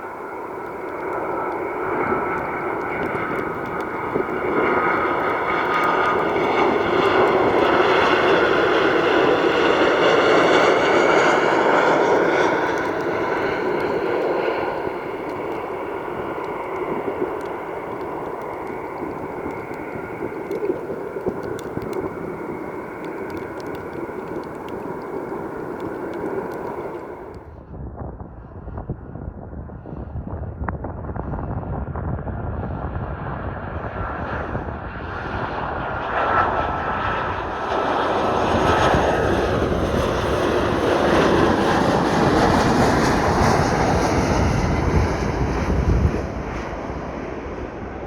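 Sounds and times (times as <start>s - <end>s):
jet engines roaring: 0.0s - 27.5s, 33.1s - 48.0s
high engine whine: 0.0s - 27.6s, 33.4s - 48.0s.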